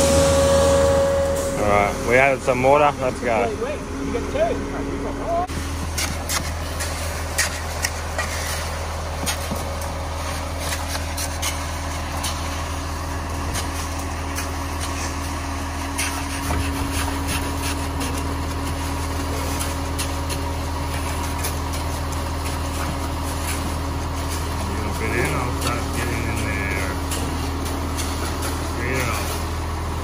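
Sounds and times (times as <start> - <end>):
concrete mixer truck engine hum: 0.0 - 30.0.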